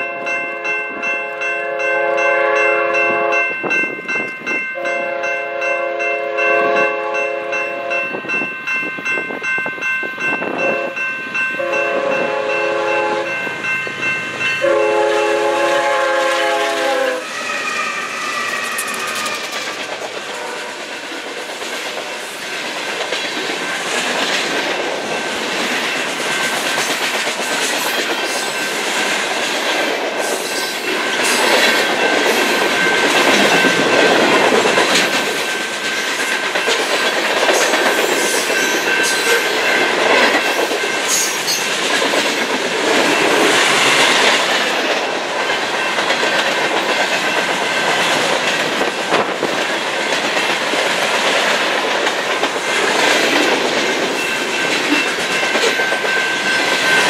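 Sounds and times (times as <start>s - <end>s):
freight train wheels rumbling and clattering: 7.6s - 57.0s.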